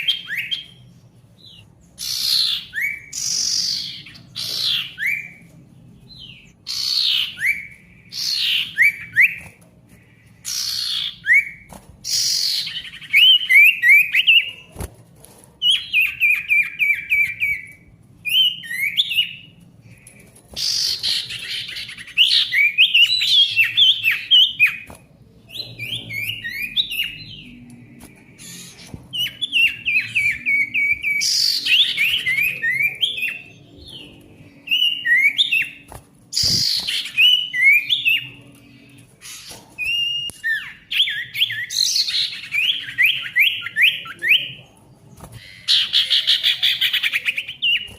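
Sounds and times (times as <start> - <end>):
bird singing chattering notes: 0.0 - 14.6, 15.6 - 47.9.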